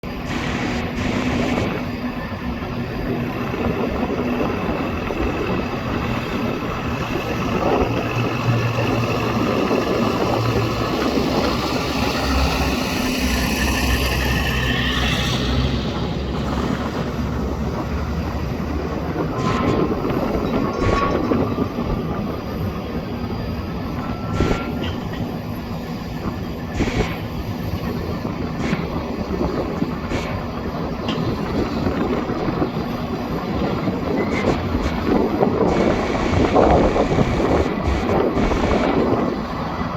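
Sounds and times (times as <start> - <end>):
high jet whine: 0.0 - 39.9
jet engines roaring: 0.0 - 39.9.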